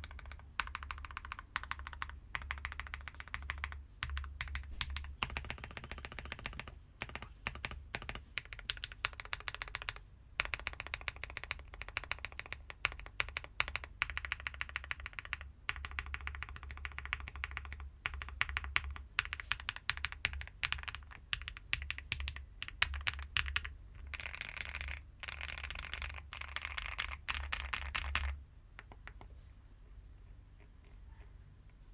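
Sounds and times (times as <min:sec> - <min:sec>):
mechanical keyboard typing: 0:00.0 - 0:29.2.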